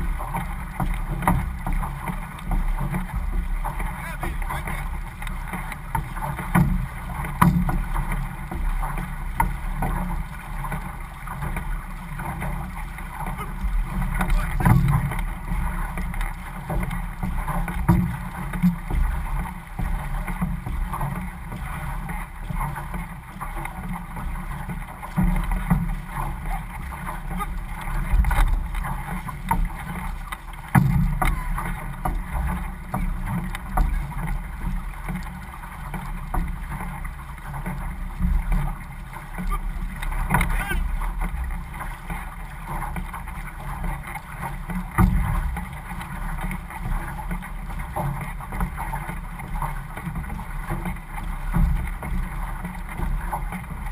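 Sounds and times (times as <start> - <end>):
water splashing along canoe hull: 0.0 - 53.9.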